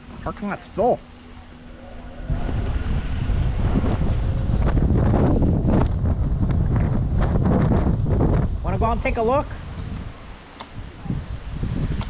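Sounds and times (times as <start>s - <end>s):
wind buffeting microphone: 0.9s - 12.0s.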